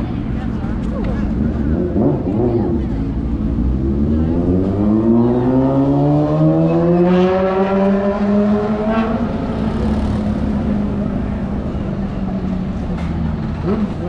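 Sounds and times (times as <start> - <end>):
street traffic noise: 0.0 - 14.0
vehicle engine accelerating: 0.0 - 14.0.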